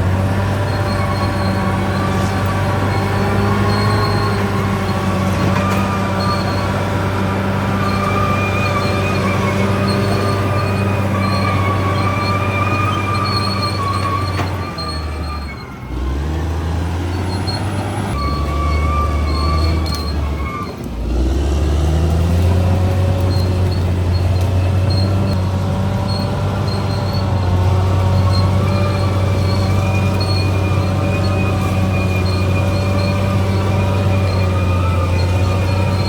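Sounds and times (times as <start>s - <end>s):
high squeals from running gear: 0.0s - 20.9s, 21.9s - 25.4s, 26.0s - 36.0s
bulldozer diesel engine: 0.0s - 36.0s.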